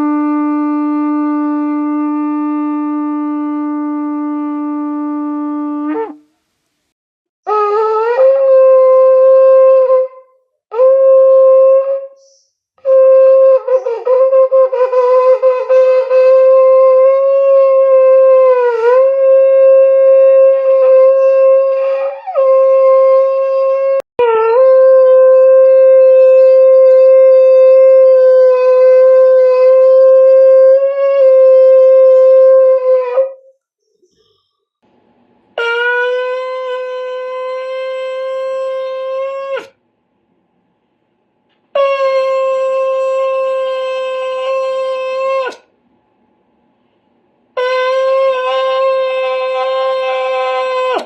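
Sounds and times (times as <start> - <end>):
shofar blasts: 0.0 - 6.3, 7.5 - 12.2, 12.8 - 33.5, 35.6 - 39.8, 41.7 - 45.7, 47.6 - 51.0.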